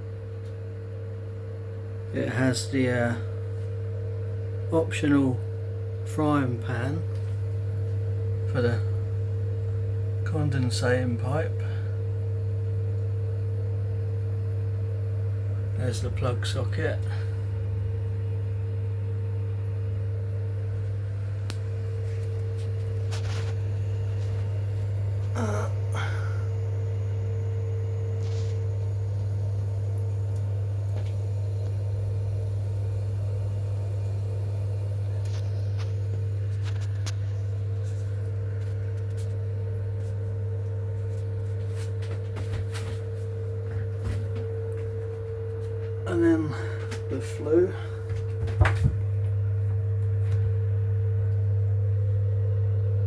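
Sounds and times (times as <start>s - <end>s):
boiler humming: 0.0s - 53.0s.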